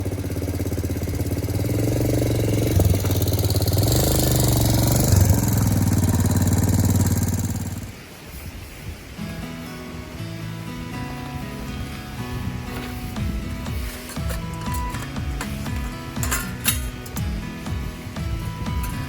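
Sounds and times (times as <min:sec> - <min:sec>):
motorcycle engine running: 0:00.0 - 0:08.2, 0:10.5 - 0:19.0.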